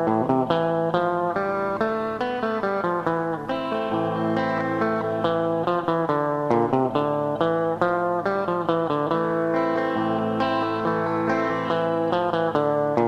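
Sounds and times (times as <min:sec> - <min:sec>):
solo guitar playing: 0:00.0 - 0:13.0.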